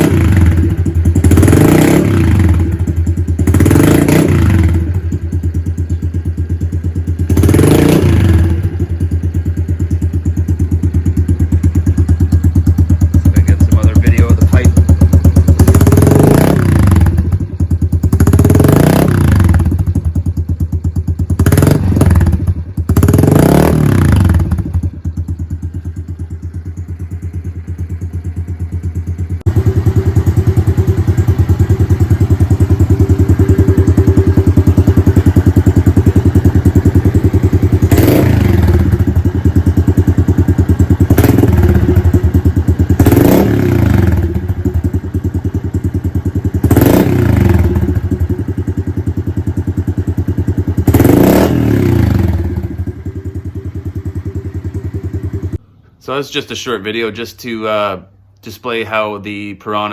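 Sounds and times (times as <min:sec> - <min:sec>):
motorcycle engine idling with throttle blips: 0:00.0 - 0:56.0.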